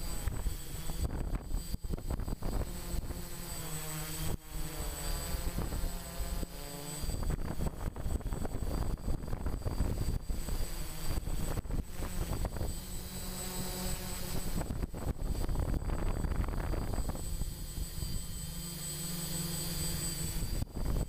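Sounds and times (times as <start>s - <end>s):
model aircraft propellers whining: 0.0s - 21.0s.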